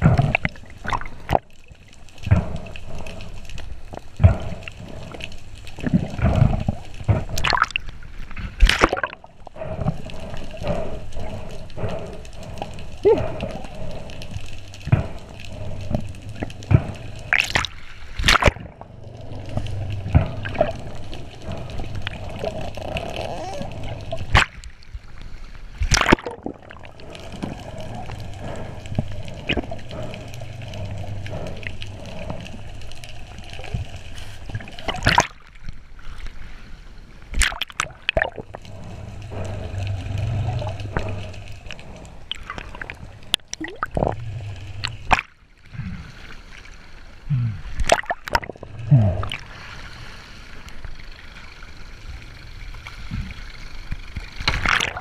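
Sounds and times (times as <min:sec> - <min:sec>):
underwater rumble of moving water: 0:00.0 - 0:55.0.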